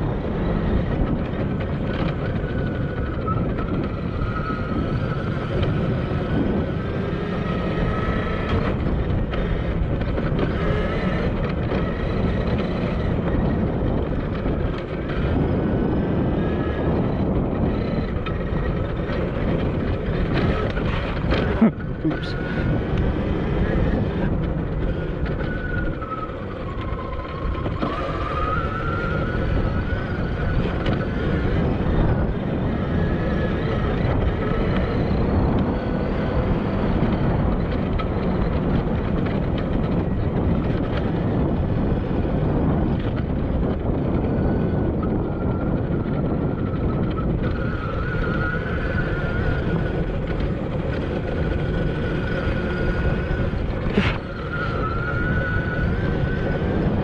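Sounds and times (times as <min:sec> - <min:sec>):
wind buffeting on microphone: 0:00.0 - 0:57.0.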